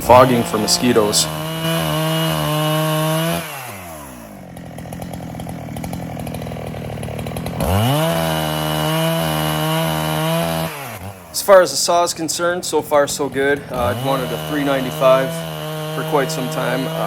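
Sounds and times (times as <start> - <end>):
chainsaw revving and idling: 0.0 - 17.0.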